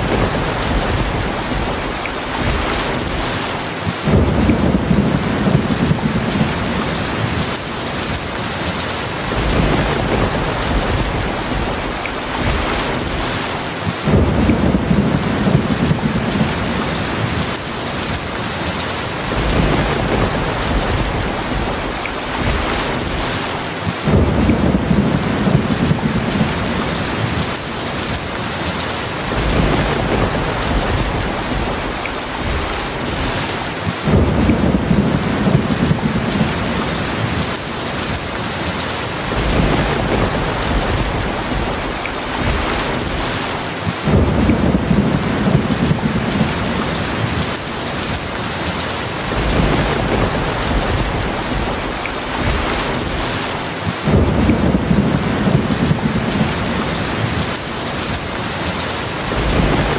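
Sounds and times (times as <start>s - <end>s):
thunder rolling: 0.0s - 8.2s, 9.1s - 18.2s, 19.2s - 28.2s, 29.2s - 38.2s, 39.2s - 48.2s, 49.2s - 58.2s, 59.2s - 59.9s
heavy rain: 0.0s - 59.9s.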